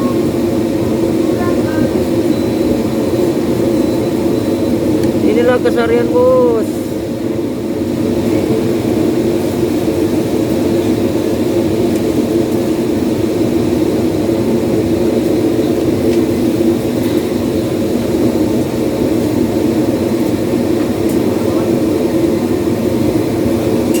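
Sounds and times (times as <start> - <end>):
loud mechanical drone: 0.0 - 24.0.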